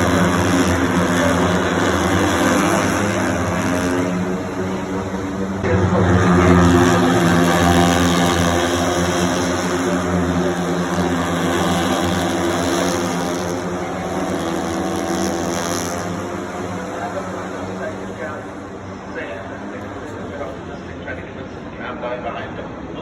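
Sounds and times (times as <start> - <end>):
racing motorcycle engines high revs: 0.0 - 21.3.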